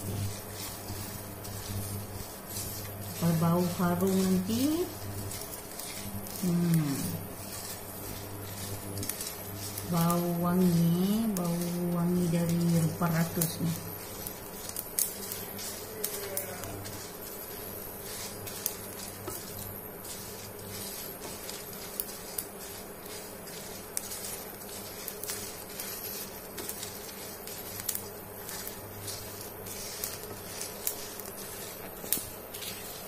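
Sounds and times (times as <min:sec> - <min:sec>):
induction cooker buzz: 0:00.0 - 0:33.0
spices clicking in pan: 0:00.0 - 0:33.0.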